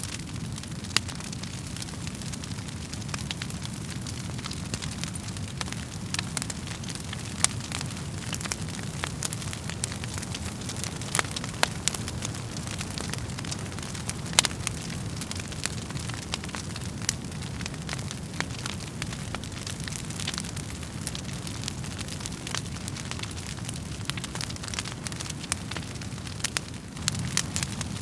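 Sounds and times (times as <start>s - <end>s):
burning logs popping and snapping: 0.0s - 28.0s
fire flames rumbling: 0.0s - 28.0s.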